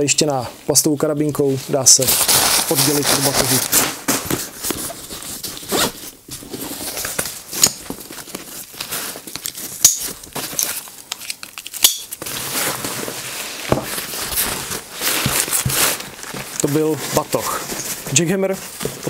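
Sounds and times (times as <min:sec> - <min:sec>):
nylon fabric rustling and crinkling: 0:00.0 - 0:19.0.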